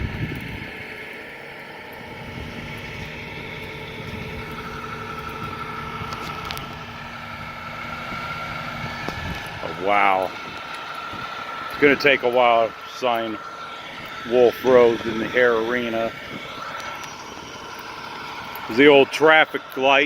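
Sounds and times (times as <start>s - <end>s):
thin whine: 0.0s - 20.0s
vehicle engines running: 0.0s - 20.0s.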